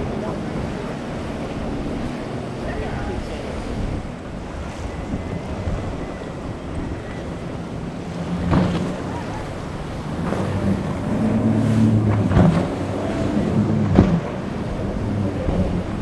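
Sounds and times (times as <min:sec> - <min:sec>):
boat hull slapping on waves: 0:00.0 - 0:16.0
outboard motors running: 0:00.0 - 0:16.0
surf noise: 0:00.0 - 0:16.0
wind on microphone: 0:00.0 - 0:16.0.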